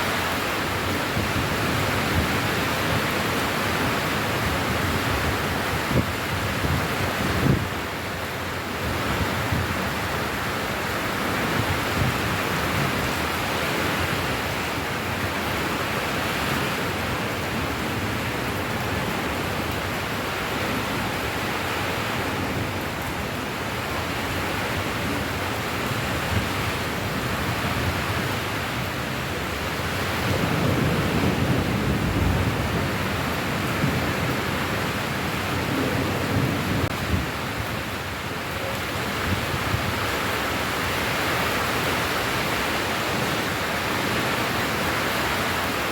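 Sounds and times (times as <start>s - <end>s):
heavy rainfall: 0.0s - 45.9s.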